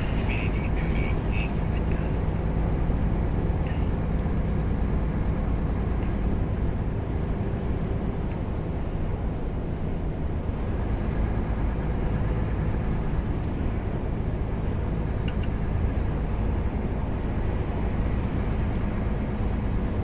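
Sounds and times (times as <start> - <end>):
road rumble: 0.0 - 20.0
truck engine drone: 0.0 - 20.0.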